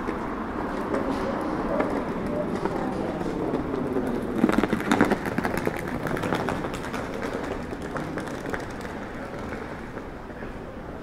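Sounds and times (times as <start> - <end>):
scattered clicks and clatter: 0.0 - 10.1
traffic: 0.0 - 11.0.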